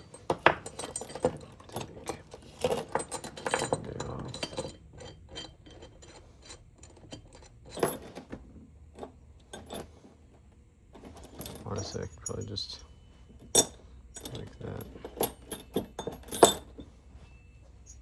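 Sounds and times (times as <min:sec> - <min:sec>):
metal hooks and chain clinking: 0:00.0 - 0:08.3, 0:11.0 - 0:18.0.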